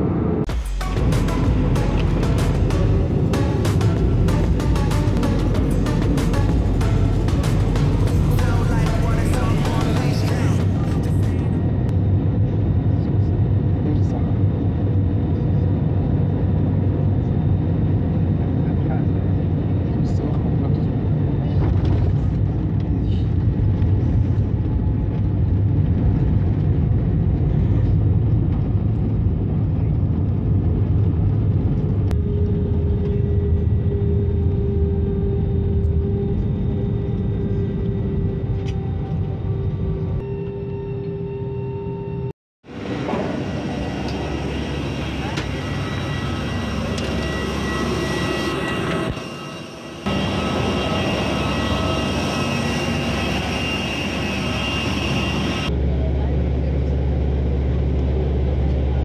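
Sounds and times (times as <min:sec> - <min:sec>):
airliner engines rumbling: 0:00.0 - 0:59.0.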